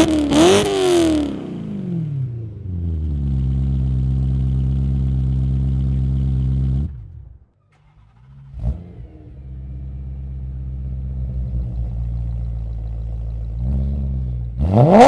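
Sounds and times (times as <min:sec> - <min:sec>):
car engine idling: 0:01.7 - 0:14.6.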